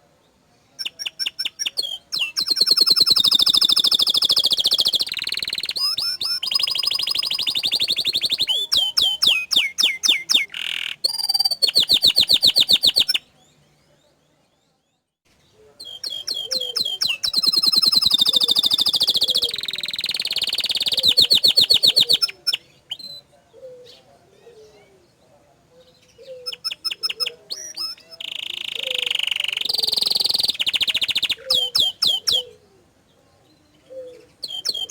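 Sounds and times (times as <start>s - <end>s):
canary singing trills: 0.6s - 34.9s.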